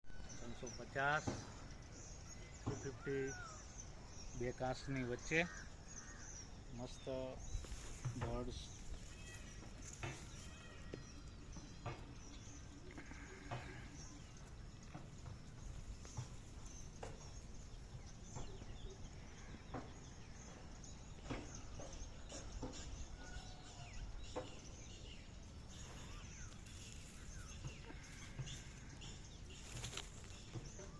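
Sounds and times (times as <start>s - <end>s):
faint birds chirping: 0.0s - 30.9s.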